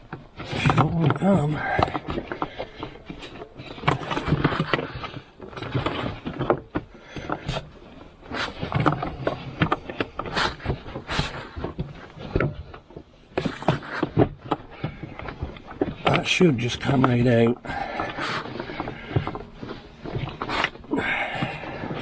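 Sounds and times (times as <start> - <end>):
plastic rubbing and rustling: 0.0 - 22.0.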